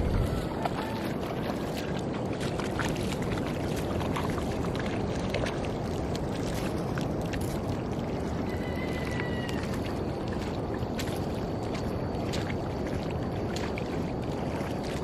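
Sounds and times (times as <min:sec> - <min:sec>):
shallow water splashing: 0:00.0 - 0:15.0.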